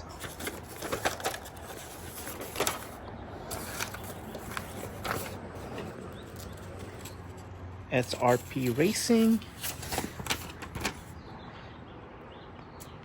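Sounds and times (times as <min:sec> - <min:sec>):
paper and packaging rustling: 0:00.0 - 0:07.4, 0:08.0 - 0:11.1.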